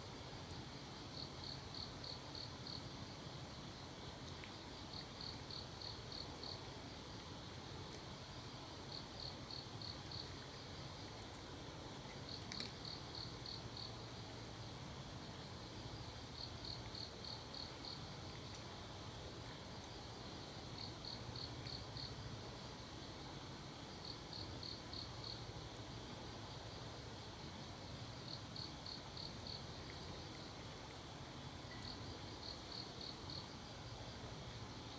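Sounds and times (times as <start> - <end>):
faint low hum: 0.0 - 34.9
cricket chirping: 0.8 - 6.7, 8.8 - 11.3, 12.0 - 18.6, 19.7 - 23.3, 23.9 - 34.9.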